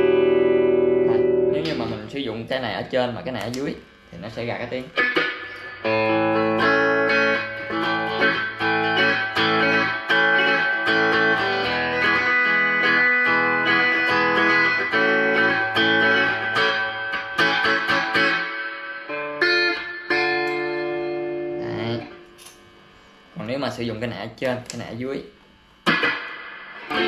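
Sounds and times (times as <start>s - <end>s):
electric guitar chords: 0.0s - 2.5s, 4.7s - 23.3s, 25.8s - 27.0s.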